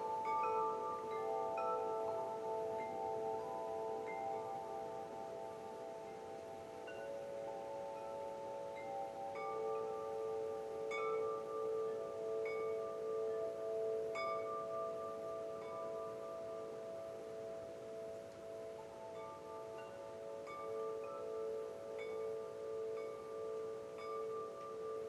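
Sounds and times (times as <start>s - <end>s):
wind chimes ringing: 0.0s - 25.0s.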